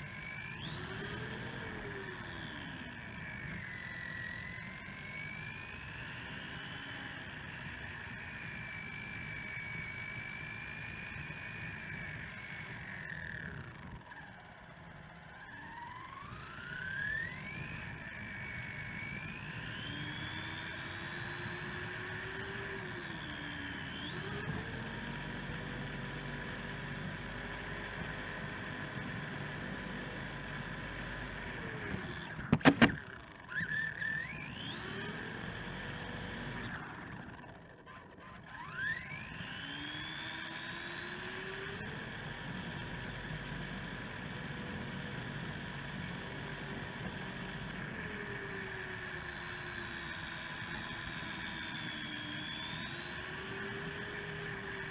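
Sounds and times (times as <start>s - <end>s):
electric toy truck motor whining: 0.0s - 54.9s.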